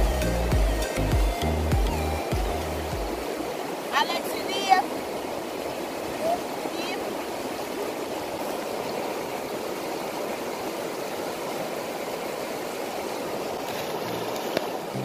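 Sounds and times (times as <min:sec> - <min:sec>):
river rapids rushing over rocks: 0:00.0 - 0:15.0.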